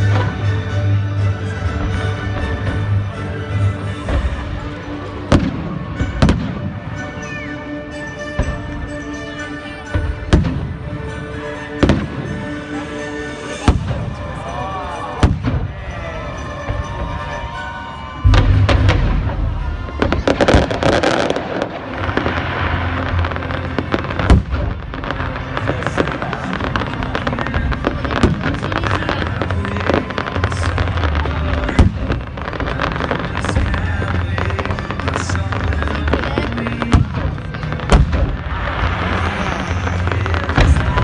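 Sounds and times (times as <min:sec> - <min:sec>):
background music: 0:00.0 - 0:41.0
fireworks bursting: 0:00.0 - 0:41.0.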